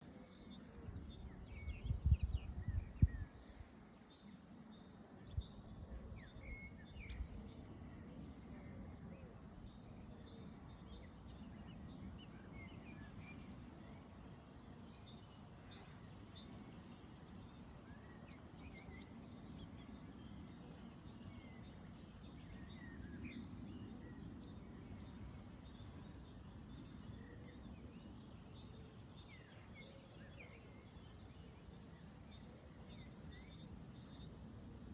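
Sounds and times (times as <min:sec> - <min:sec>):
crickets trilling: 0:00.0 - 0:34.9
faint bird chirps: 0:00.2 - 0:14.0, 0:14.6 - 0:25.8, 0:27.0 - 0:34.3.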